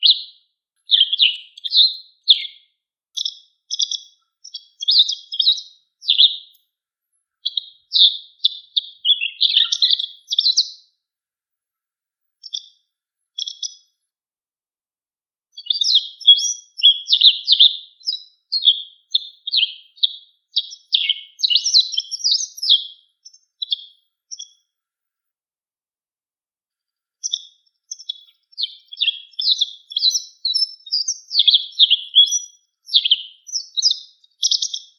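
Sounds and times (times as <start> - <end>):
bird chirping: 0.0 - 6.6, 7.3 - 11.0, 12.4 - 13.9, 15.6 - 24.7, 27.2 - 34.9.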